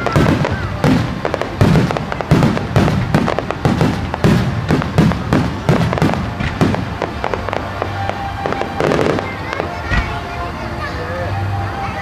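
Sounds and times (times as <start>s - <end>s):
fireworks booming: 0.0s - 10.3s
fireworks crackling: 0.0s - 12.0s.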